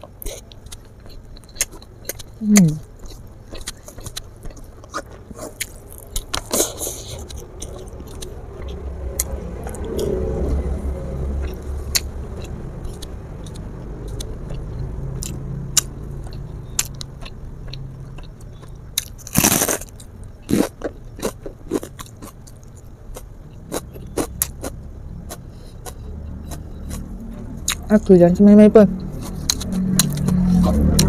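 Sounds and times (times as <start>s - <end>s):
person chewing and crunching: 0.0s - 10.6s, 11.3s - 28.0s, 29.0s - 31.0s.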